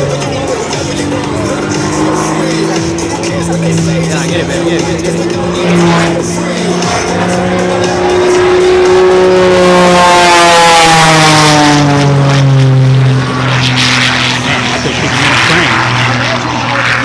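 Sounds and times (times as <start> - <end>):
propeller plane passing: 0.0 - 17.0.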